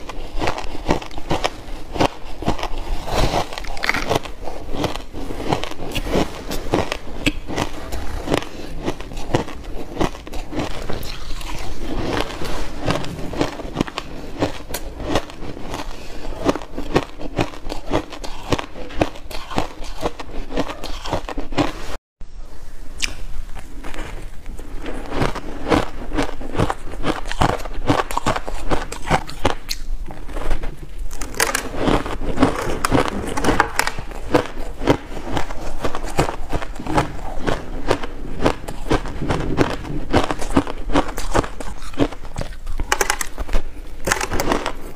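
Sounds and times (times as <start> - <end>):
crunching and chewing ice: 0.0 - 21.9, 23.0 - 44.9.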